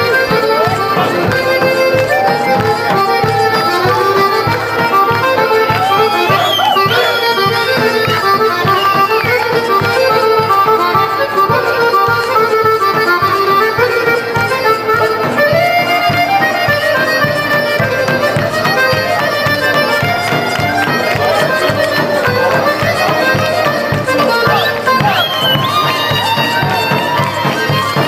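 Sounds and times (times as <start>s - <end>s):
folk dance music melody: 0.0s - 28.0s.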